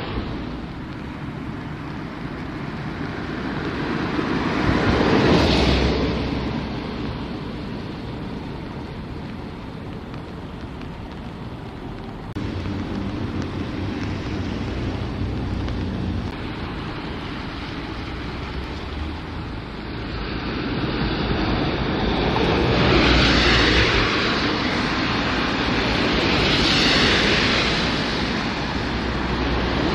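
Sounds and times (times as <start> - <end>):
traffic rumble: 0.0 - 29.9
vehicles passing on wet road: 0.0 - 29.9.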